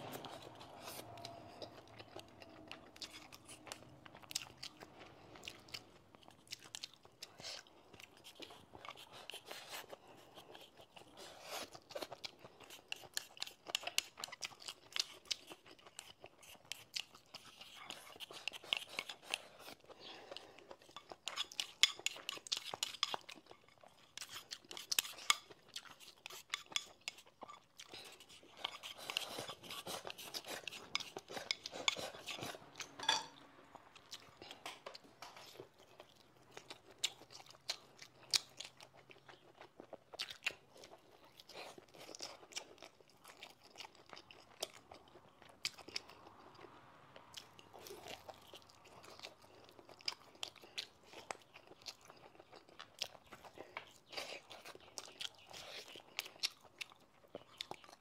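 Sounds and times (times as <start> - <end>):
chewing chicken: 0.0 - 58.0.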